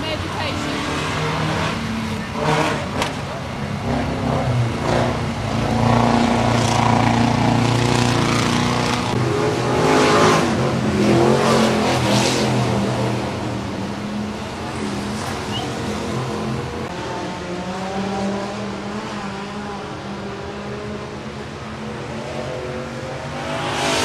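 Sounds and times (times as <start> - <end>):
race car engine passing: 0.1 - 24.0.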